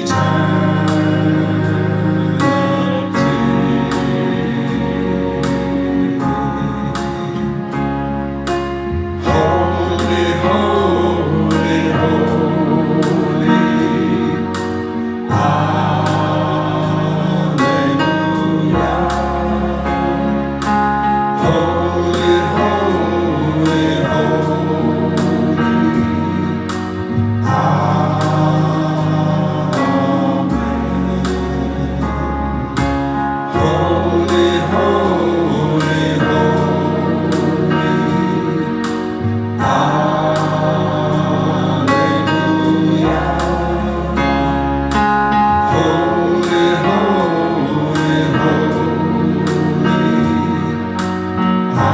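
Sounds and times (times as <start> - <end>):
band playing: 0.0 - 51.9
voices singing: 0.0 - 51.9.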